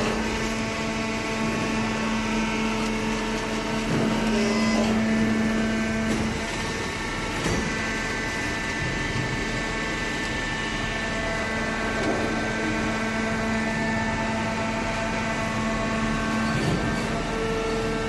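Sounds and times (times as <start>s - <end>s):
shredding and baling machinery hum: 0.0s - 18.0s.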